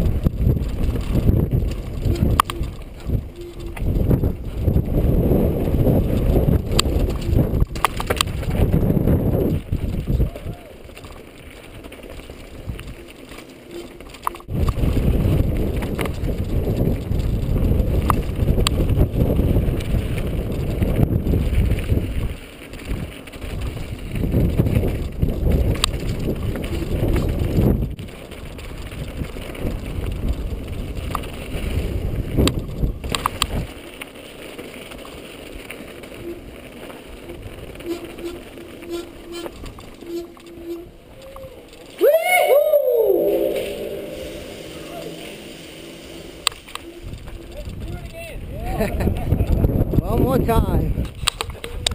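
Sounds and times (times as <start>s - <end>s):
bike clicking and rattling: 0.0s - 42.8s, 44.0s - 51.9s
bike tyres on dirt and stones: 0.0s - 51.9s
wind rumbling on microphone: 0.0s - 51.9s.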